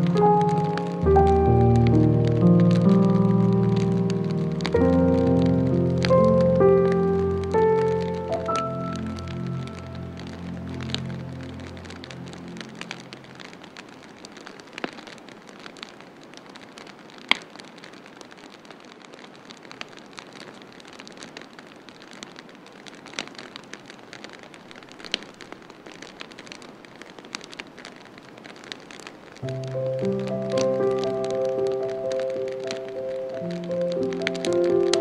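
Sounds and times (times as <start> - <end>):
sharp ticks and pops: 0.0 - 35.0
steady rain falling: 0.0 - 35.0.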